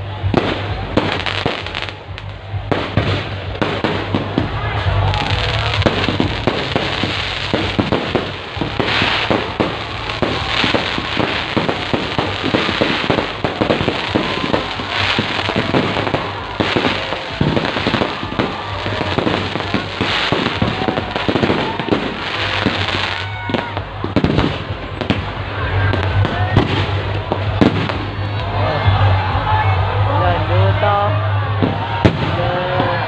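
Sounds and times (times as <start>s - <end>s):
fireworks crackling and popping: 0.0s - 28.5s
loud firework bursts: 0.2s - 28.2s.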